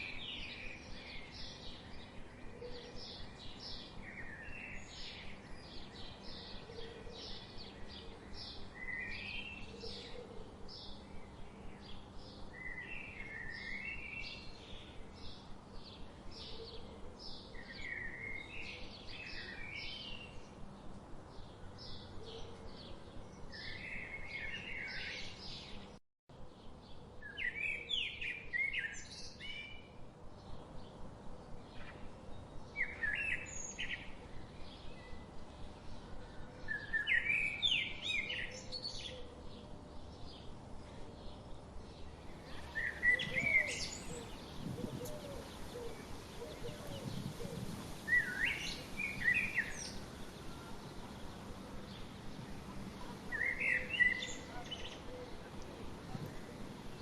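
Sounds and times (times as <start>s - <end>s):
wild birds chirping and singing: 0.0s - 57.0s.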